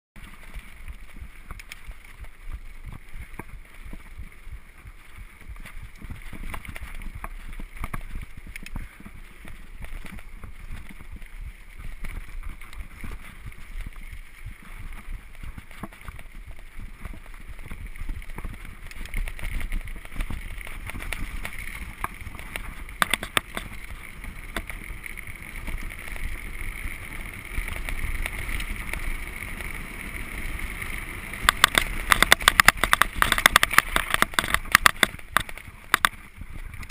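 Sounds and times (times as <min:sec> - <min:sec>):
bike tyres rumbling on dirt: 0:00.2 - 0:36.9
bike frame rattling and knocking: 0:00.3 - 0:28.9, 0:30.8 - 0:36.9.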